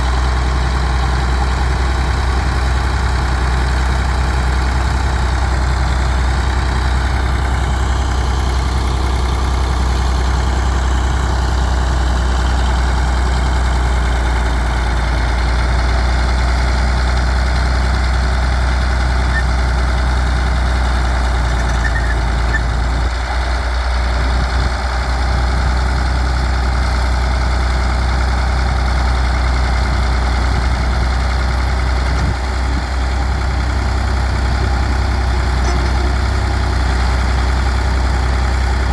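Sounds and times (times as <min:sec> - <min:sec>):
bulldozer diesel engine idling: 0:00.0 - 0:38.9.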